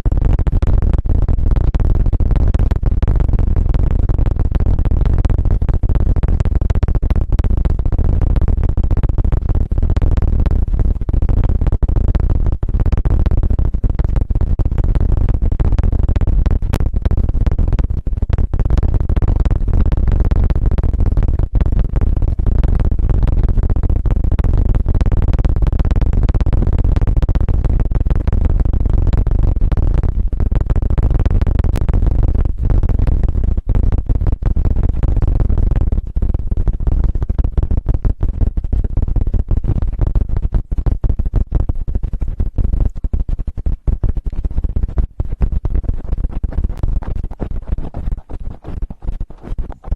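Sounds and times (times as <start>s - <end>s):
low rumbling flutter on microphone: 0.0s - 49.9s.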